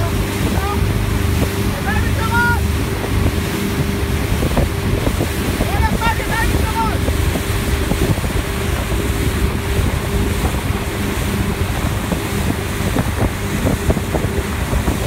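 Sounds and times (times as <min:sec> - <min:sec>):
boat wake rushing: 0:00.0 - 0:15.0
motorboat engine running: 0:00.0 - 0:15.0
wind buffeting microphone: 0:00.0 - 0:15.0.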